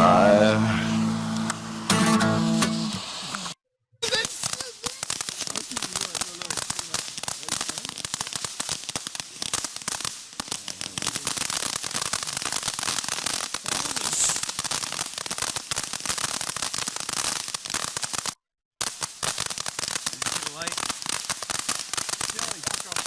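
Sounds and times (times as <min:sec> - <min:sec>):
firework crackling: 0:00.0 - 0:23.0.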